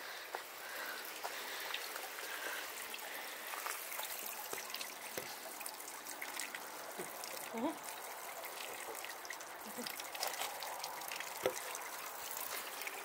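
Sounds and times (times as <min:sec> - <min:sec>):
water dripping and splashing: 0:00.0 - 0:13.0
water trickling from a spout: 0:00.0 - 0:13.0.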